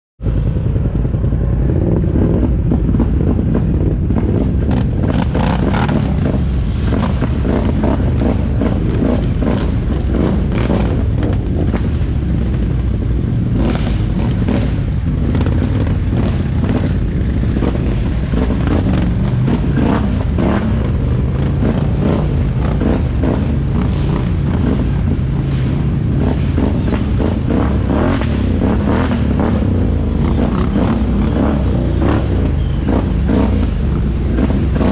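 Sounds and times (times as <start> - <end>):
atv engine running: 0.2 - 34.9.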